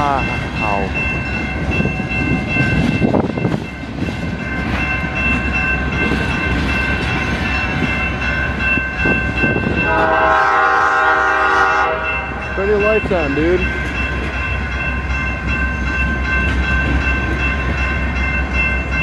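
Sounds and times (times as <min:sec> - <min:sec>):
rail car clunks: 0:00.0 - 0:19.0
train wheels rumbling on rail: 0:00.0 - 0:19.0.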